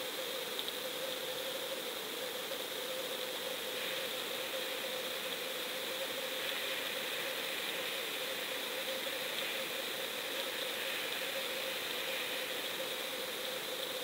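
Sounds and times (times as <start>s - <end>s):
faint steady hum: 0.0s - 14.0s
underwater hiss: 0.0s - 14.0s.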